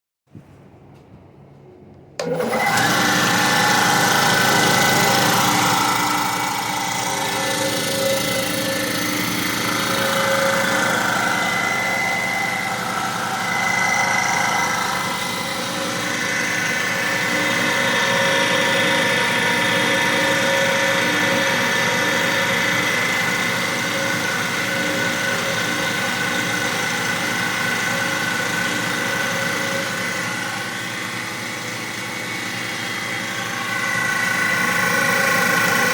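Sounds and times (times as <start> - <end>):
air compressor running: 2.2 - 35.9.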